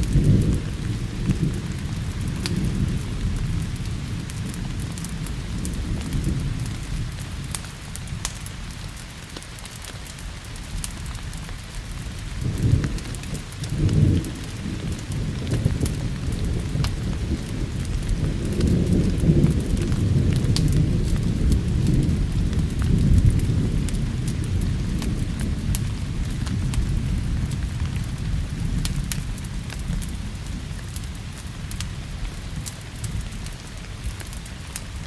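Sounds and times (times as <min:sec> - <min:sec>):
thunder rumbling: 0:00.0 - 0:07.9, 0:11.9 - 0:35.0
steady rain hiss: 0:00.0 - 0:35.0.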